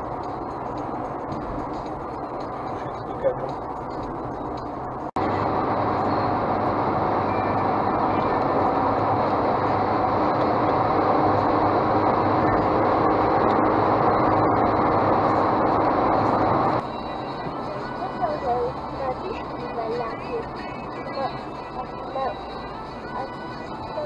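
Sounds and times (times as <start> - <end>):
car cabin road noise: 0.0 - 24.0.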